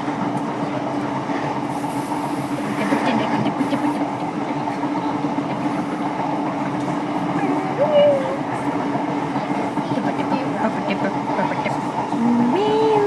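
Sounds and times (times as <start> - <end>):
constant hum: 0.0 - 13.0
train wheels rumbling on rails: 0.0 - 13.0.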